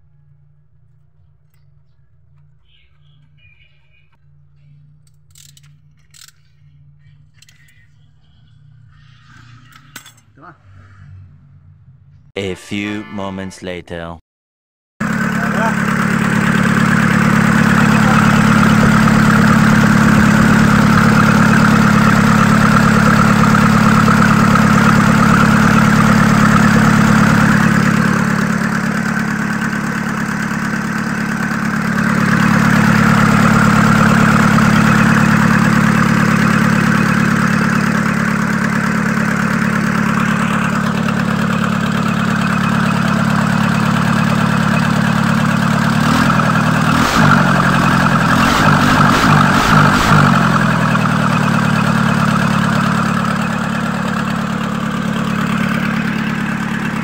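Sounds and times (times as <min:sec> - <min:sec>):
diesel engine idling: 0:00.0 - 0:10.0, 0:15.0 - 0:57.0.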